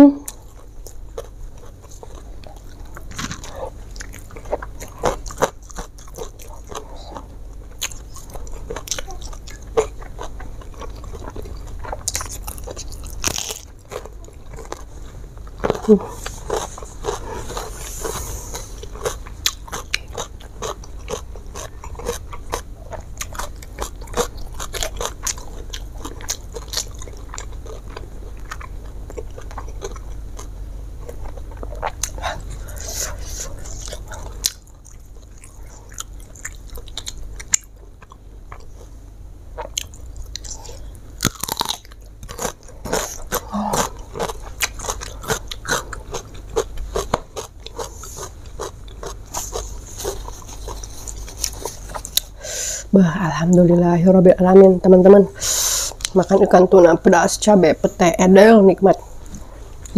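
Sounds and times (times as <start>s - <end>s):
person chewing and crunching food: 0.0s - 52.7s, 55.4s - 56.6s.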